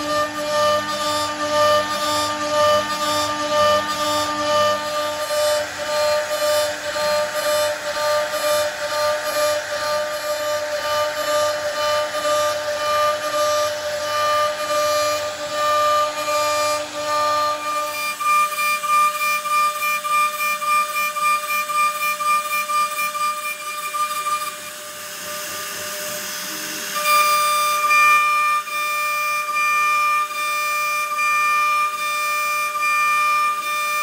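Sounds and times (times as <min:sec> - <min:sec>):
hiss of cutting wood: 0:00.0 - 0:19.4, 0:22.2 - 0:32.9
router spindle whining: 0:00.0 - 0:34.0.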